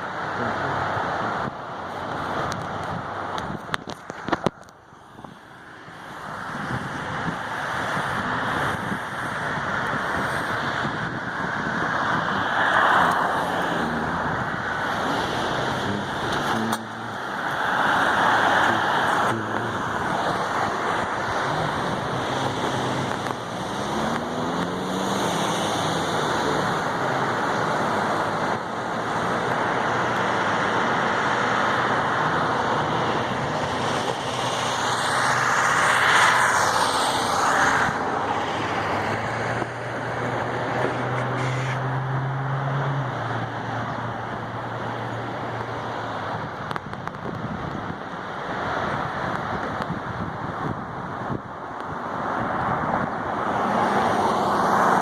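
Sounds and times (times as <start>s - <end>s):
road traffic rushing: 0.0s - 55.0s.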